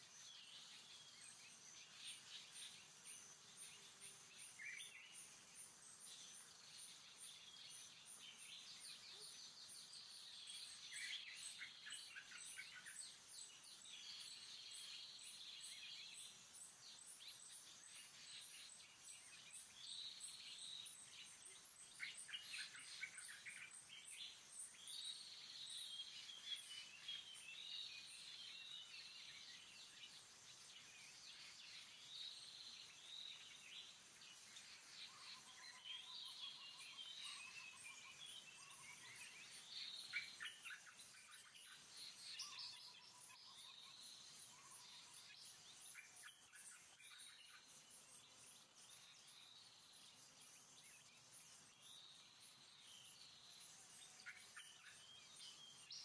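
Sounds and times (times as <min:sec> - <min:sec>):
wild birds chirping: 0:00.0 - 0:56.0.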